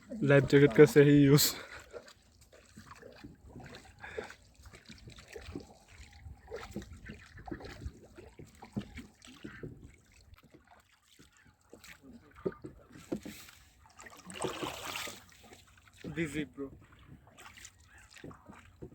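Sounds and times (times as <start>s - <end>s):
boat low rumble: 0.0s - 18.9s
water splashes: 0.0s - 18.9s.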